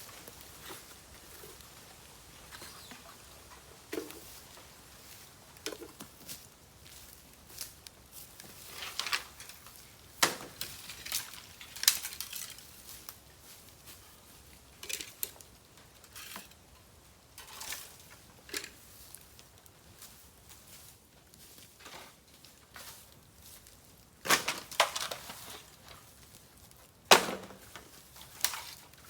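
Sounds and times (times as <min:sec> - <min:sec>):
dry bamboo cracking: 0:00.0 - 0:29.0.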